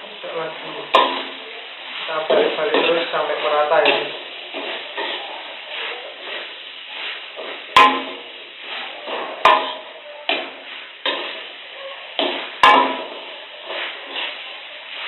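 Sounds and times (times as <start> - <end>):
metal spatula scraping a wok: 0.2 - 15.0.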